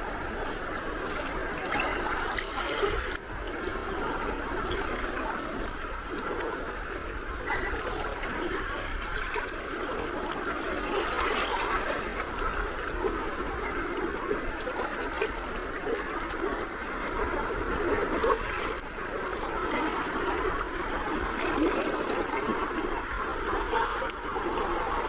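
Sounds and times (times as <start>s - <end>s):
sea waves lapping: 0.0s - 25.0s.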